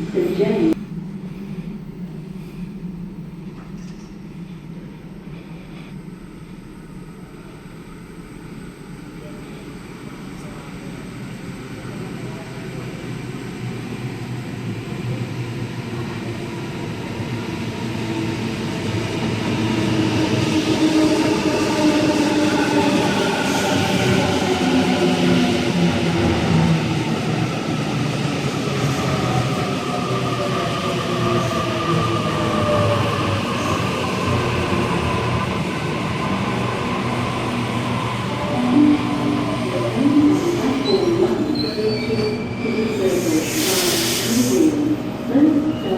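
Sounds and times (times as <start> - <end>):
electric train rumbling: 0.0 - 45.9.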